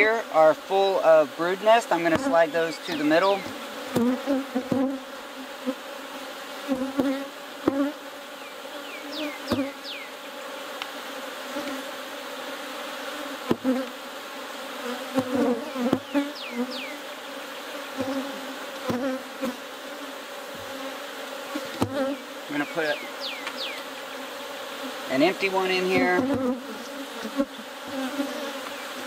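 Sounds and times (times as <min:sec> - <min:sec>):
honey bees buzzing: 0:00.0 - 0:29.0.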